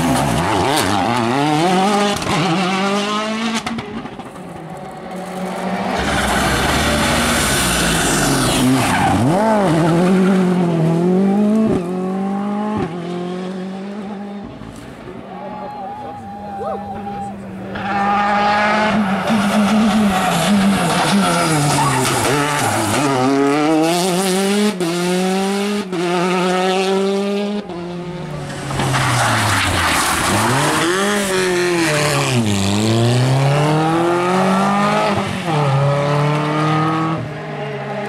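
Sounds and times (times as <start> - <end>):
rally car engines at full throttle: 0.0 - 38.0.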